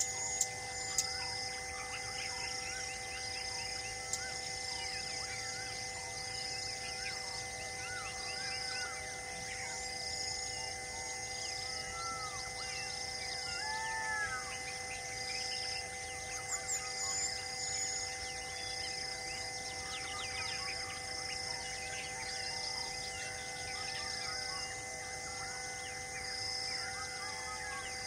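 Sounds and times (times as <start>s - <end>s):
birds chirping and whistling: 0.0s - 28.0s
high buzzing call: 0.0s - 28.0s
steady background drone: 0.0s - 28.0s.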